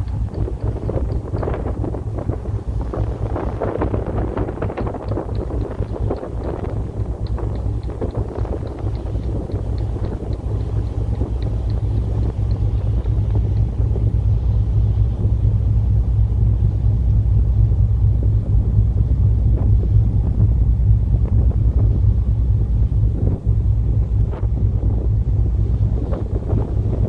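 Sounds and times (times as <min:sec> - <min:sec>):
ferry engine rumble: 0:00.0 - 0:27.0
wind buffeting microphone: 0:00.0 - 0:27.0.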